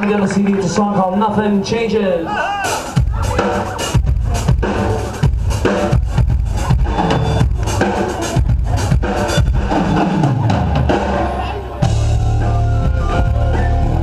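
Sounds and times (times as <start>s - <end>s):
drum kit beat: 2.6s - 14.0s
live rock band playing: 2.6s - 14.0s.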